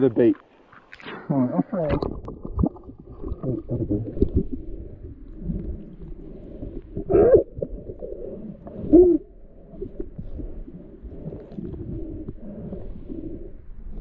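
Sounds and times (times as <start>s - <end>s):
muffled underwater rumble: 1.6s - 14.0s.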